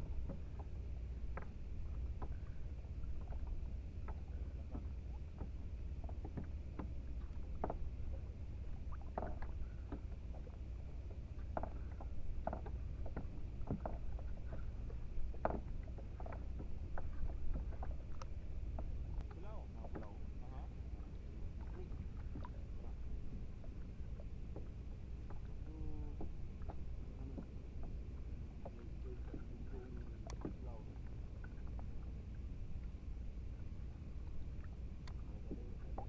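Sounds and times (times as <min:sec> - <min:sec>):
kayak hull knocks and splashes: 0:00.0 - 0:32.2, 0:33.4 - 0:36.0
steady low rumble: 0:00.0 - 0:36.0.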